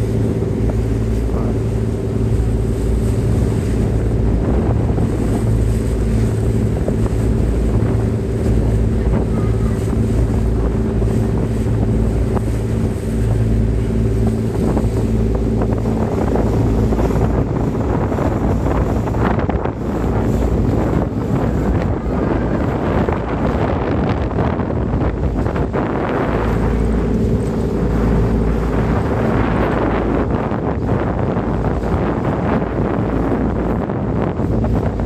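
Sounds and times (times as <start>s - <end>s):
boat engine humming: 0.0s - 35.0s
wind buffeting microphone: 0.0s - 35.0s.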